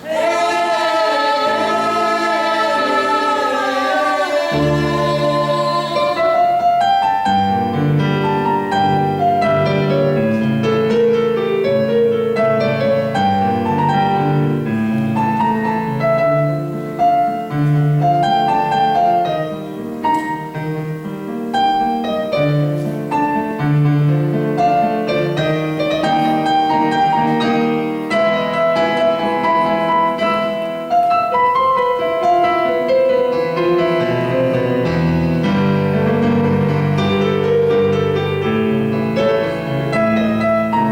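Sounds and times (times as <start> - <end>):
piano playing: 0.0 - 40.9.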